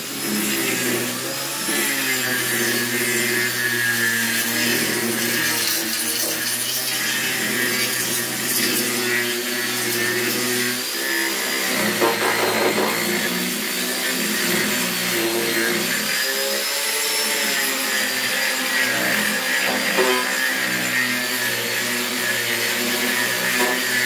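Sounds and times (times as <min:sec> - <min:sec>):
angle grinder grinding wood: 0:00.0 - 0:24.0.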